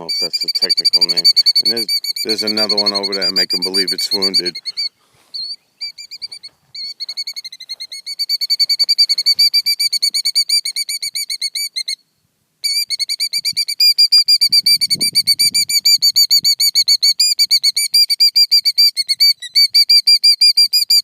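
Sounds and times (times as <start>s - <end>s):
bird alarm trill: 0.0s - 21.0s.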